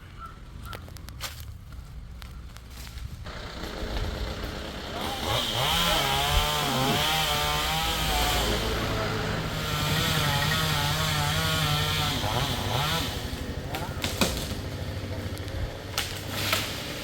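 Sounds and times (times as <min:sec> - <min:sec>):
two-stroke chainsaw running: 0:03.3 - 0:17.0.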